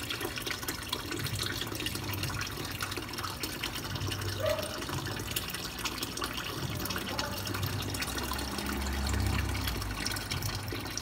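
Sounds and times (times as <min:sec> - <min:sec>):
water running and splashing: 0:00.0 - 0:11.0.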